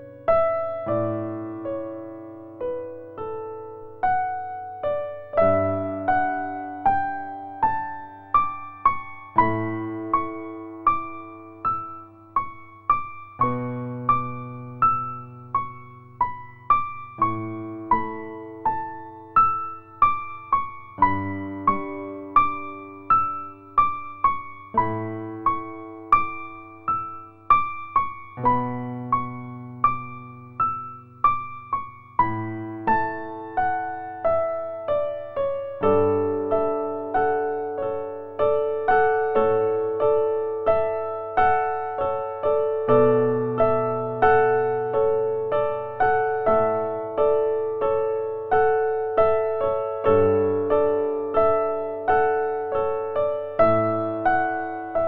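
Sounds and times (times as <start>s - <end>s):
gentle solo piano: 0.0s - 55.0s.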